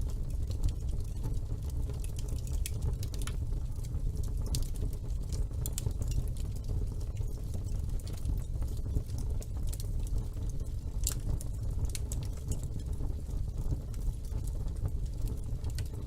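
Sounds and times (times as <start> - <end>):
fire crackles and pops: 0.0 - 16.0
wood fire rumbling: 0.0 - 16.0.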